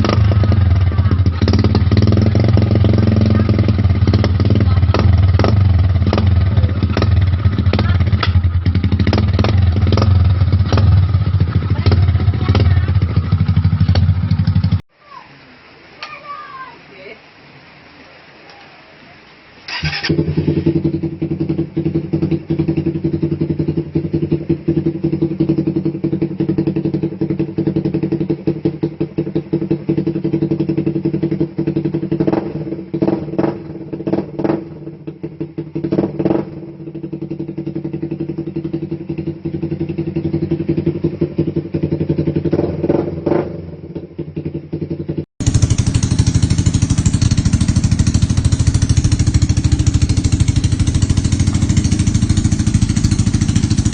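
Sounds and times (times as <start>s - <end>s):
motorcycle exhaust running: 0.0s - 14.8s, 19.7s - 53.9s
motorcycle throttle blips: 0.0s - 14.8s, 19.7s - 53.9s.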